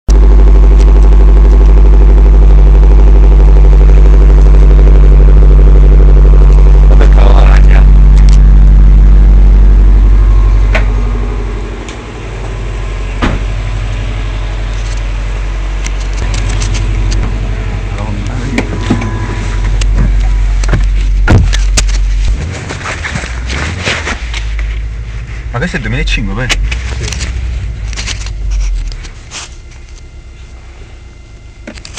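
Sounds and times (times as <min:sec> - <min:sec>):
car engine idling: 0:00.1 - 0:31.9.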